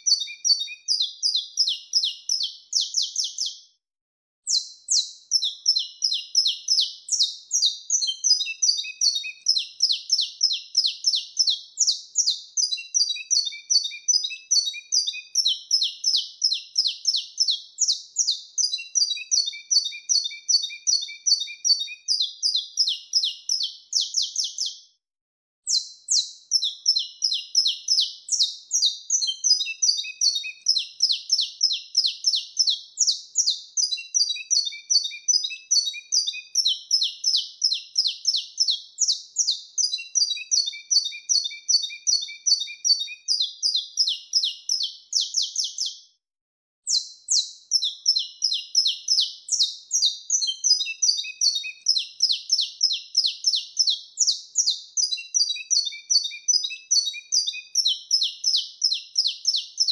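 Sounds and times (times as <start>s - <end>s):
finch singing high chirped notes: 0.0s - 3.7s, 4.5s - 24.9s, 25.7s - 46.0s, 46.9s - 59.9s.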